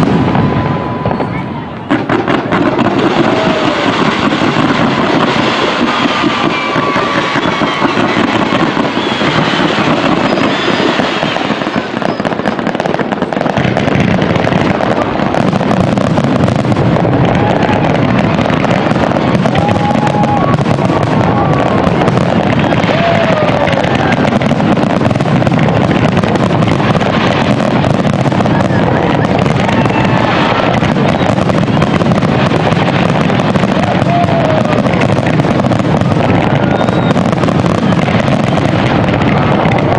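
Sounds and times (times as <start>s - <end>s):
fireworks crackles and bangs: 0.0s - 39.9s
fireworks whistles: 0.0s - 39.9s.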